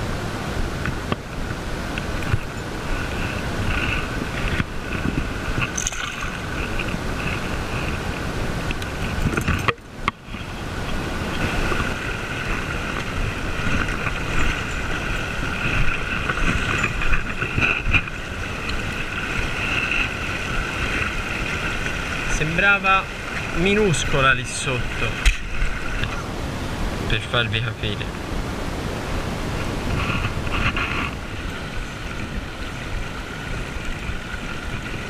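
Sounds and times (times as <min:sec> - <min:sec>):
wind noise on microphone: 0:00.0 - 0:27.2, 0:28.1 - 0:35.0
river water over stones: 0:00.0 - 0:35.0.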